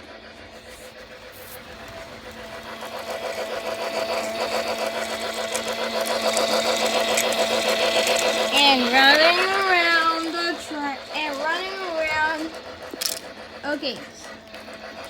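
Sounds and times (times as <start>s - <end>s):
toy train motor whir: 0.0s - 15.0s
toy train clattering on track: 0.6s - 15.0s.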